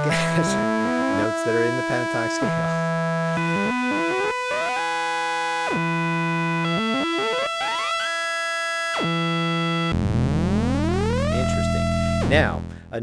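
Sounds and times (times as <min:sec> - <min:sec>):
synthesizer tone stepping in pitch: 0:00.1 - 0:12.3.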